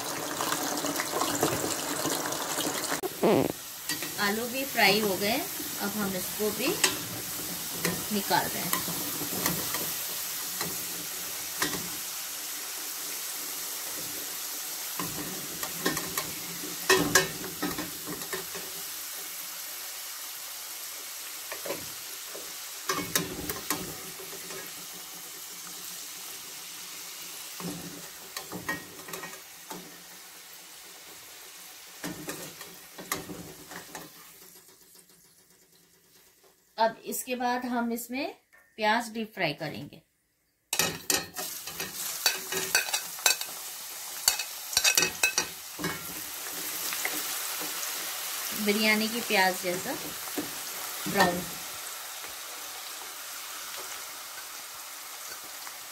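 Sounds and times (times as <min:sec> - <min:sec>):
potatoes sizzling in hot oil: 0:00.0 - 0:37.7, 0:40.8 - 0:55.9.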